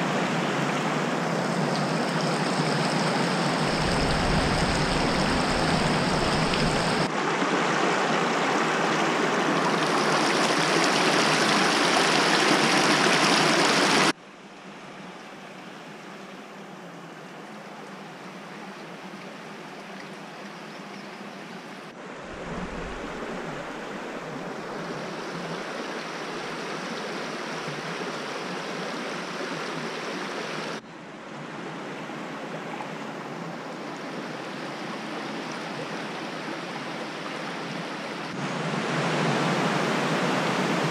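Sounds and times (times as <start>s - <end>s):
creek water rushing over rocks: 0.0s - 14.2s, 17.3s - 40.9s.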